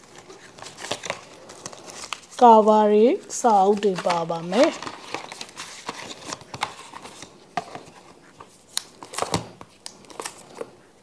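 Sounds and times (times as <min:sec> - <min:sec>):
paper and plastic rustling: 0:00.0 - 0:10.9.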